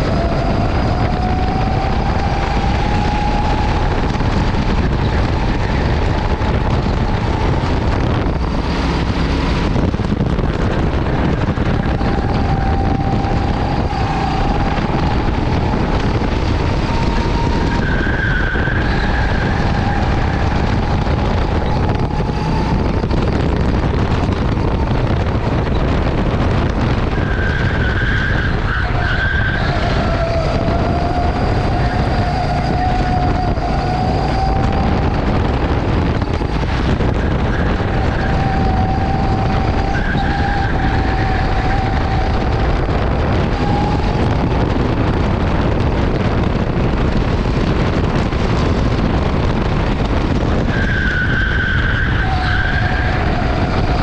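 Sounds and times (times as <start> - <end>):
go-kart engine running: 0.0 - 54.0
loud rushing noise: 0.0 - 54.0.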